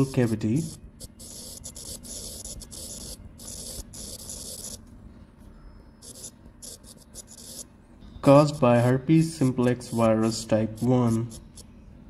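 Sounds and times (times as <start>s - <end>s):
stylus scratching on touchscreen: 0.0s - 4.8s, 6.0s - 11.7s.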